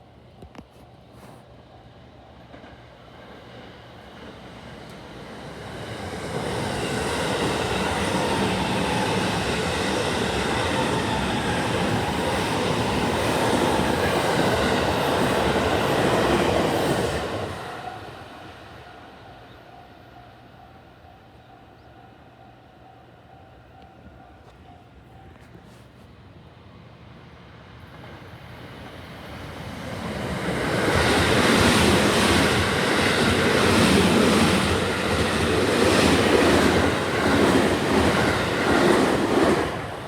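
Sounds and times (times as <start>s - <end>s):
electric train passing: 2.5s - 24.2s, 26.4s - 40.0s.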